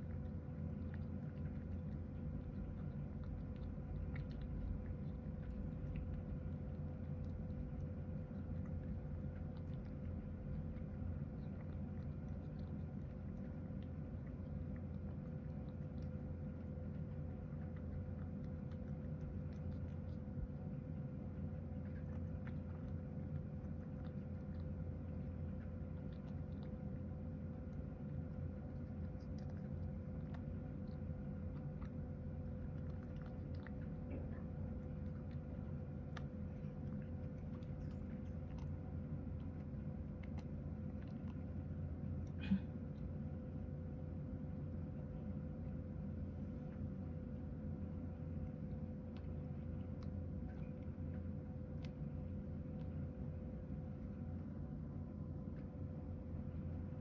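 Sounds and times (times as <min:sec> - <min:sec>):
cat chewing: 0:00.0 - 0:57.0
steady low hum: 0:00.0 - 0:57.0.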